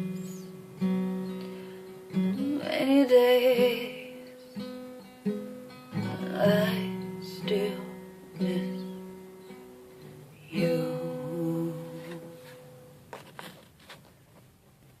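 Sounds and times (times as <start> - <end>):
acoustic guitar strummed chords: 0.0 - 13.6.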